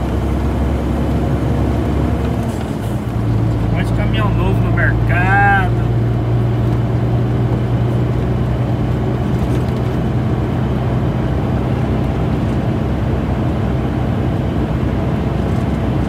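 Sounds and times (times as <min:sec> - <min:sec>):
truck diesel engine humming: 0:00.0 - 0:16.0
tyre and road noise: 0:00.0 - 0:16.0.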